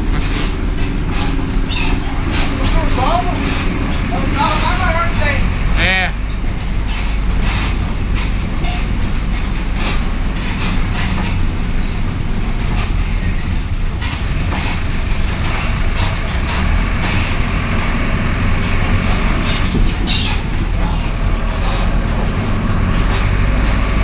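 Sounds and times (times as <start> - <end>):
body rattles and clatters: 0.0 - 24.0
bus diesel engine: 0.0 - 24.0
road rumble: 0.0 - 24.0.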